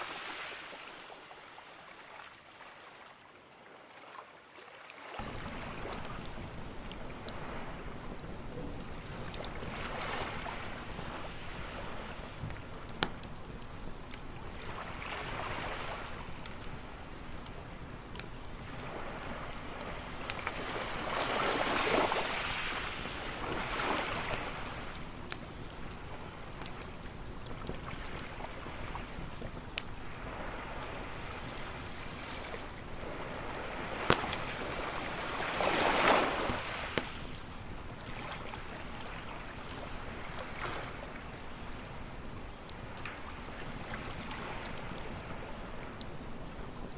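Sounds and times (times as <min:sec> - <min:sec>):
waves washing onto beach: 0:00.0 - 0:46.9
campfire crackling: 0:05.0 - 0:46.9
fire popping: 0:05.2 - 0:46.9.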